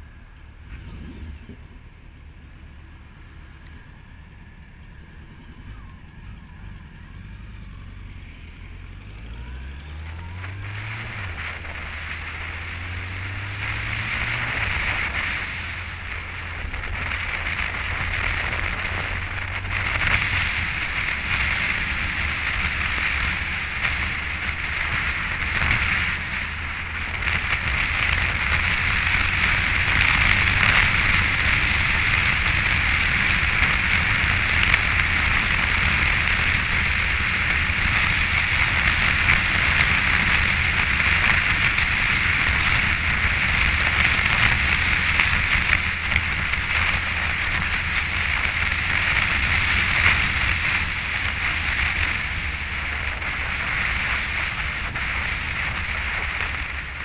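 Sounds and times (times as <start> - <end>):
motorcycle engine drone: 0.0 - 57.0
wind rushing over microphone: 4.8 - 57.0.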